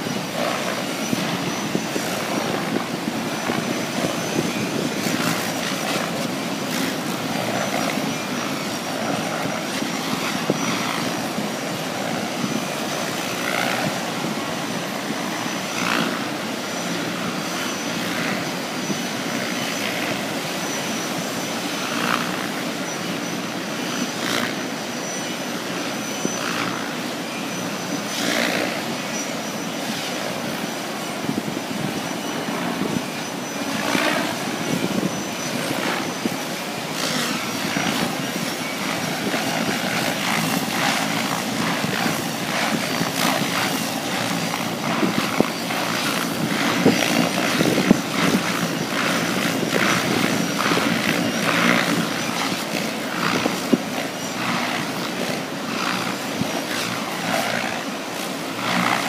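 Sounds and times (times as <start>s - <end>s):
rotor blades whooshing: 0.0s - 59.0s
thin high motor whine: 0.0s - 59.0s.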